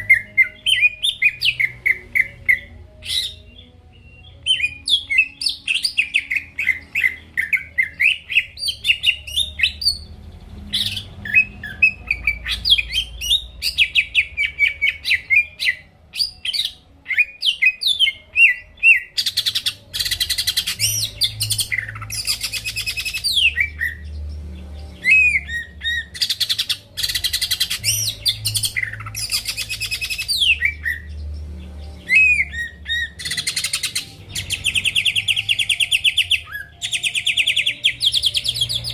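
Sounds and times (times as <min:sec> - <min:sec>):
songbird chirping and whistling: 0:00.0 - 0:38.9.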